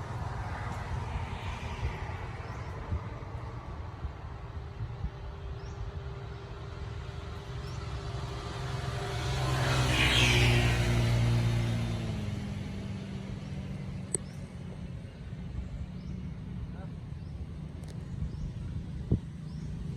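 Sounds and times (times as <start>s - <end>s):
vehicle engine rumbling: 0.0s - 19.9s
vehicle passing by: 0.0s - 19.9s.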